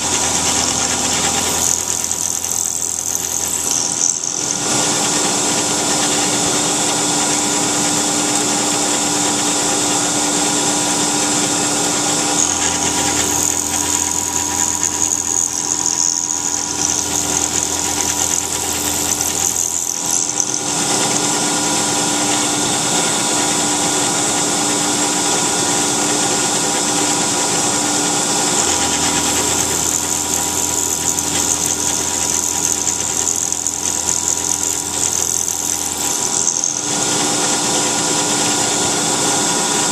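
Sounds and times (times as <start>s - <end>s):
milling machine cutting metal: 0.0s - 39.9s.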